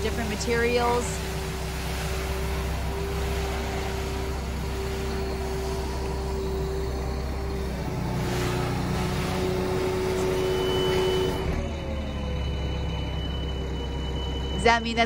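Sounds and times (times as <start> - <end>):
crane dragging a load: 0.0 - 15.0
steady whine: 0.0 - 15.0
truck engine running: 0.0 - 15.0.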